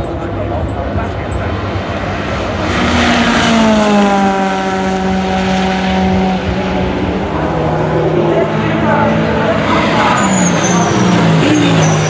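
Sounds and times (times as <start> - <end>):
race car engine passing: 0.1 - 12.0.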